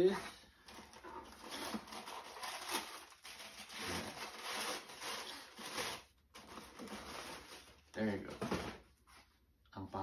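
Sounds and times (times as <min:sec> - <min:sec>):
paper rustling and crinkling: 0:00.6 - 0:09.3.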